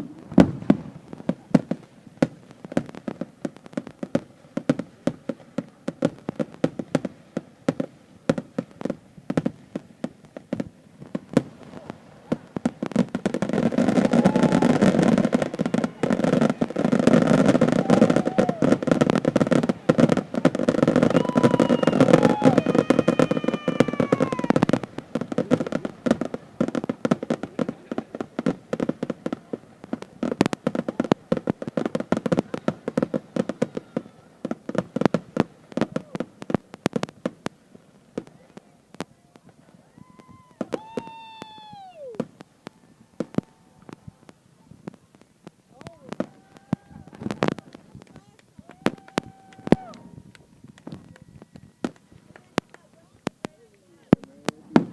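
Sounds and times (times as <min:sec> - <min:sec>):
fireworks falling whistles: 0:00.0 - 0:53.2
fireworks bangs and crackles: 0:00.0 - 0:54.9.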